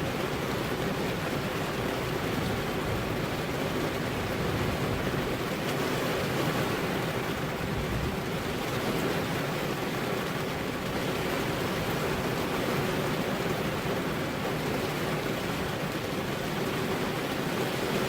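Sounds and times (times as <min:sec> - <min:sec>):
rain on car windows: 0:00.0 - 0:18.0.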